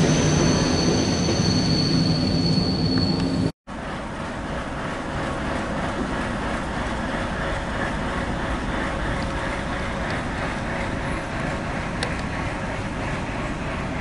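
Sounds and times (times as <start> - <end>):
diesel locomotive rumbling: 0.0 - 14.0.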